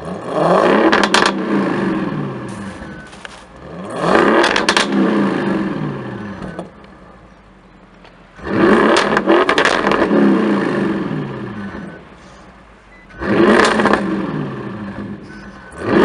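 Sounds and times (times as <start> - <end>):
car engine revving: 0.0 - 16.0
exhaust crackles: 0.0 - 16.0.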